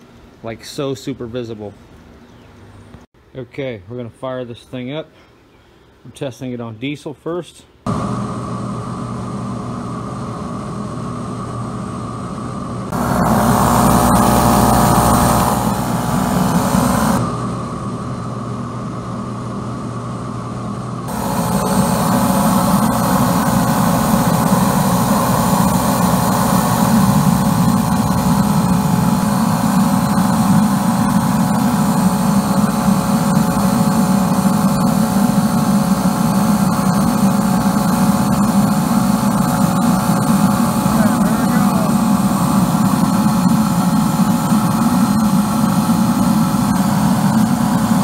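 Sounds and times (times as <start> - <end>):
boiler burner rumbling: 7.9 - 48.0.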